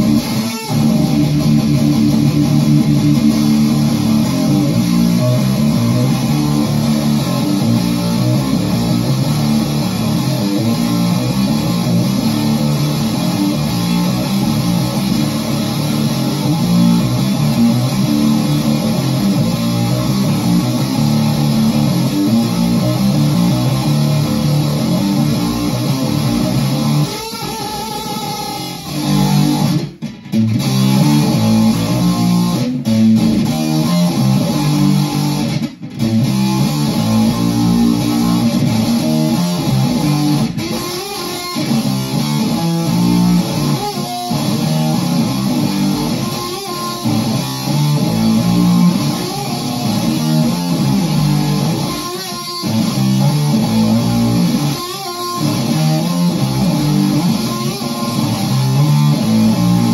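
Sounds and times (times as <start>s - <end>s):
distorted electric guitar riffs: 0.0s - 59.9s.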